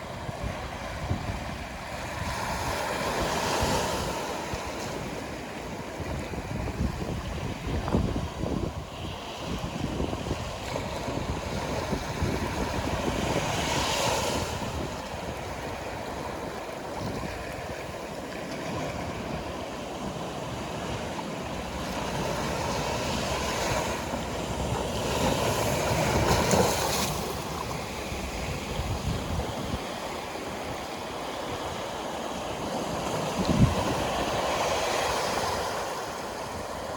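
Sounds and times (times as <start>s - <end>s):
sea waves breaking on beach: 0.0s - 36.9s
wind rumble on microphone: 0.0s - 36.9s.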